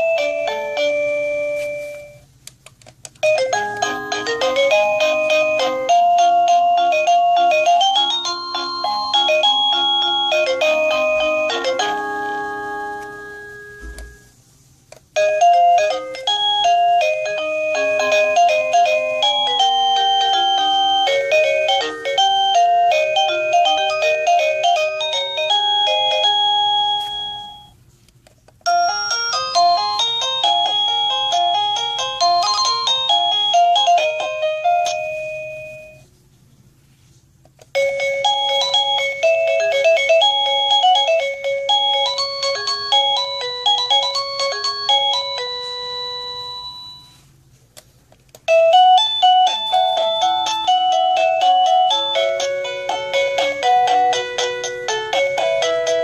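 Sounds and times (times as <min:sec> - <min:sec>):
doorbell electronic chime melodies: 0:00.0 - 0:02.3, 0:03.2 - 0:14.4, 0:15.2 - 0:27.8, 0:28.7 - 0:36.1, 0:37.8 - 0:47.3, 0:48.5 - 0:56.0.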